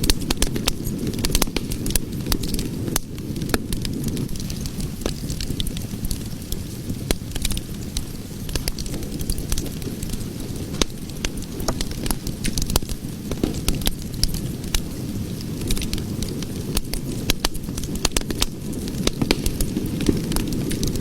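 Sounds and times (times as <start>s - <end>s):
fire burning with low rush: 0.0s - 21.0s
fire crackling and popping: 0.0s - 21.0s.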